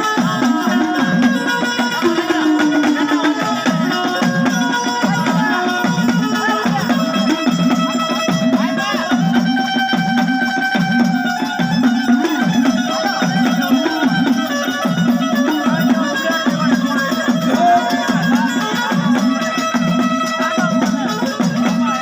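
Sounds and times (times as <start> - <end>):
drum rhythm: 0.0 - 22.0
held melody notes: 0.0 - 22.0.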